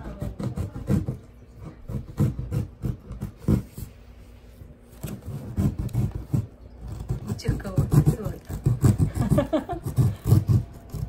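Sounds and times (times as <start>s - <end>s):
knife cutting cardboard: 0.0s - 4.0s, 4.9s - 11.0s.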